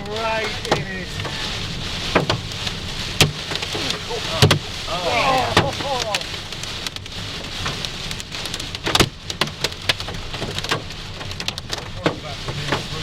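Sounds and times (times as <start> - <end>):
hailstones striking a car: 0.0 - 13.0
heavy rain hissing: 0.0 - 13.0.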